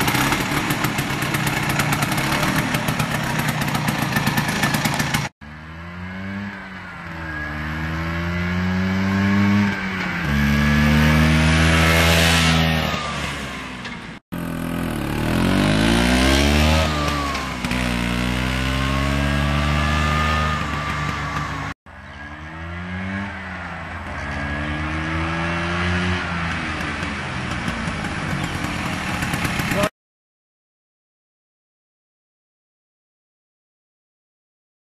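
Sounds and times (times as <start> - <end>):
scooter engine accelerating past: 0.0 - 29.9.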